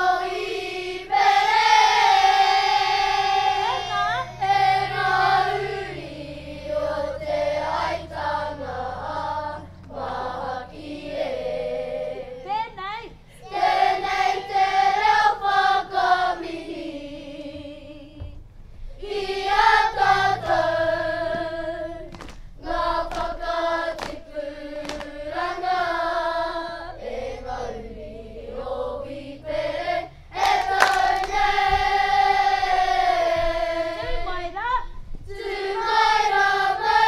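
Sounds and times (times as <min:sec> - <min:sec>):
children singing in unison: 0:00.0 - 0:12.5, 0:13.4 - 0:18.4, 0:19.0 - 0:34.6, 0:35.2 - 0:37.0.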